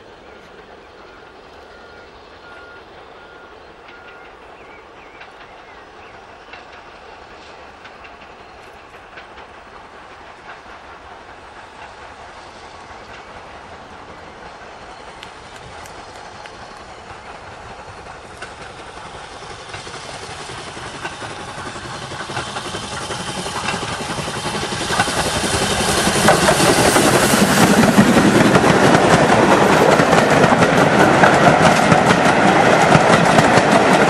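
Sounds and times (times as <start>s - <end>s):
steam locomotive rumble: 0.0s - 34.0s
wheels clicking on track: 0.0s - 34.0s.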